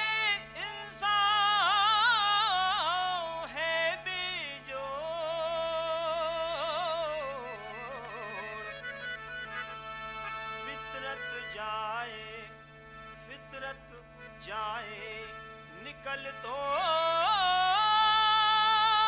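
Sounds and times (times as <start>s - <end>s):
man singing with vibrato: 0.0s - 9.0s, 10.6s - 12.6s, 13.2s - 19.0s.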